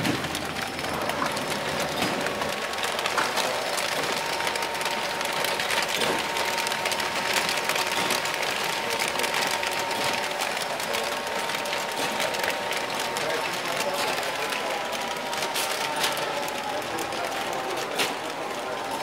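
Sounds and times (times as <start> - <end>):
wrapping machine humming: 0.0 - 19.0
crackling rustle of film: 0.2 - 19.0.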